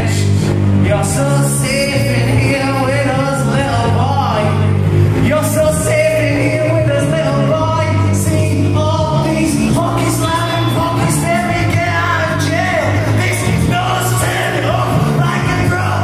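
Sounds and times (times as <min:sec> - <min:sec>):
bass guitar: 0:00.0 - 0:16.0
drums: 0:00.0 - 0:16.0
man singing: 0:00.0 - 0:16.0.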